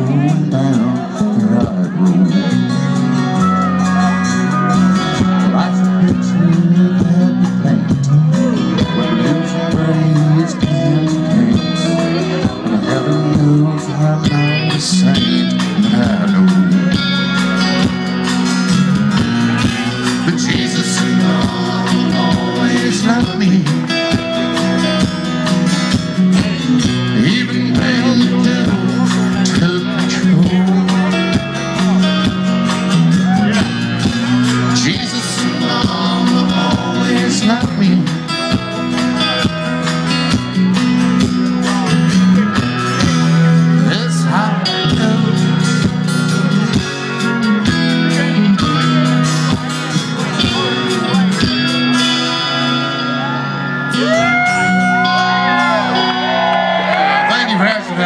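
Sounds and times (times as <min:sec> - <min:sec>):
live country band playing: 0:00.0 - 0:58.0.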